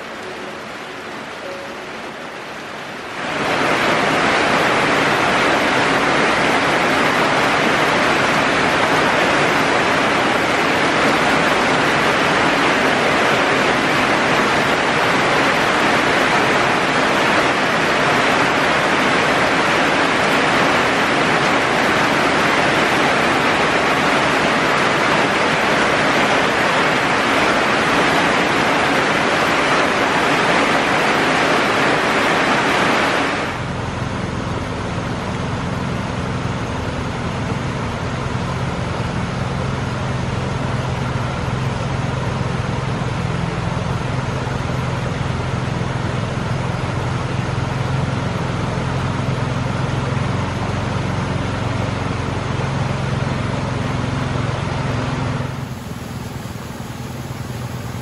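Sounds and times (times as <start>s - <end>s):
steady rain hissing: 0.0s - 58.0s
stream rushing over log: 0.0s - 58.0s.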